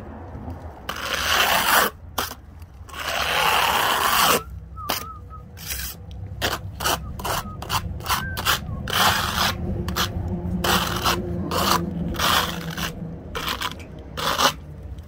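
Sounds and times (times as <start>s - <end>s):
trowel scraping over concrete: 0.8s - 15.0s.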